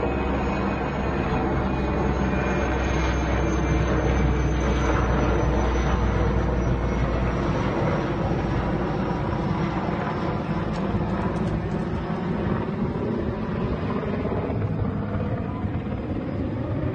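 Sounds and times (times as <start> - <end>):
aircraft engine drone: 0.0 - 16.9.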